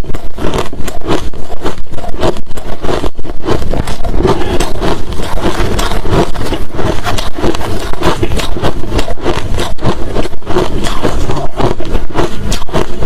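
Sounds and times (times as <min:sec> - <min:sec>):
ice being chewed: 0:00.0 - 0:13.0.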